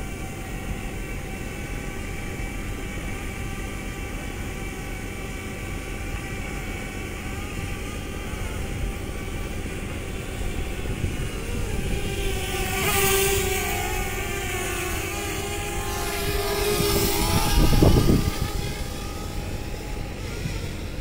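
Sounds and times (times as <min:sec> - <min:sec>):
drone propellers whining: 0:00.0 - 0:21.0
noisy background: 0:00.0 - 0:21.0.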